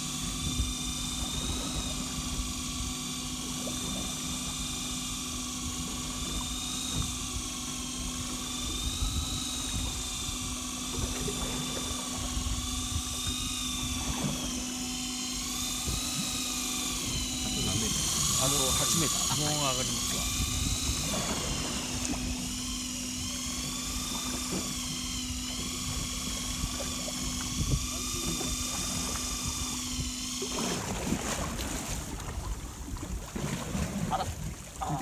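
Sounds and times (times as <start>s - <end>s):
fishing reel motor whining: 0.0s - 35.0s
steady low hum: 0.0s - 35.0s.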